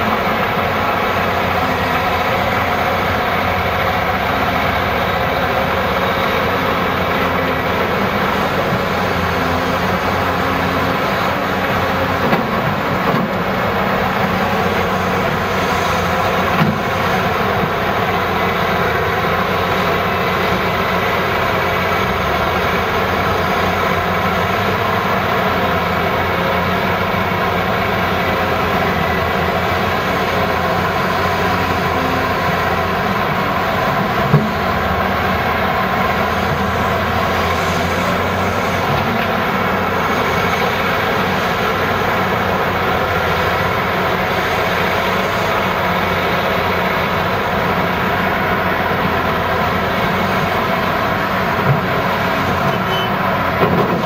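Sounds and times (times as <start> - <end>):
diesel excavator engine: 0.0 - 54.0.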